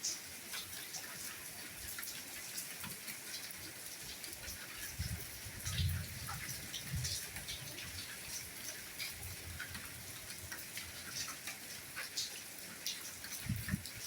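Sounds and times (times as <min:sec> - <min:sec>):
raindrops ticking close by: 0:00.0 - 0:14.0
steady rainfall: 0:00.0 - 0:14.0.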